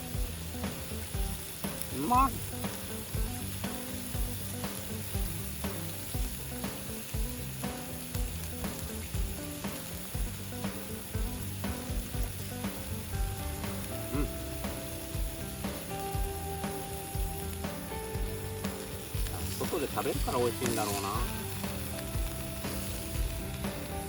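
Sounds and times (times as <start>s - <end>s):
meat sizzling on hot plate: 0.0s - 24.0s.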